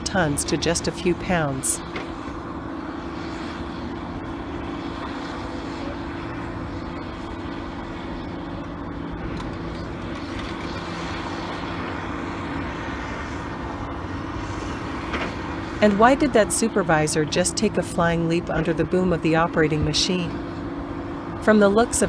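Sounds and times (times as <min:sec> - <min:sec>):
excavator diesel engine humming: 0:00.0 - 0:22.0.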